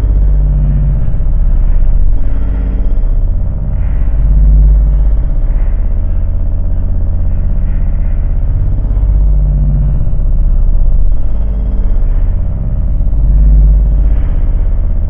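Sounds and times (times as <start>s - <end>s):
heavy bass drone music: 0.0s - 15.0s.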